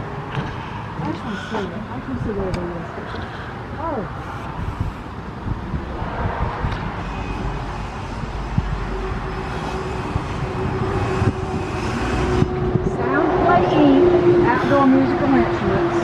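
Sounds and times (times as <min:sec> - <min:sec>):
motor vehicle running along road: 0:00.0 - 0:16.0
steady hum: 0:00.0 - 0:16.0.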